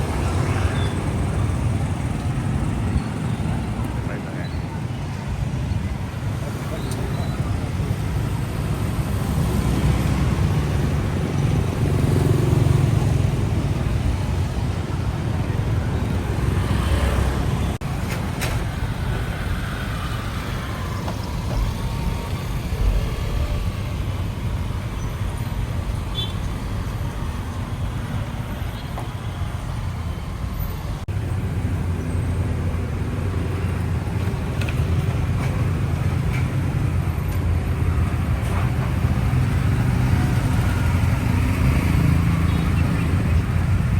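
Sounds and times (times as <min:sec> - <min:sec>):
street traffic rumble: 0:00.0 - 0:43.9.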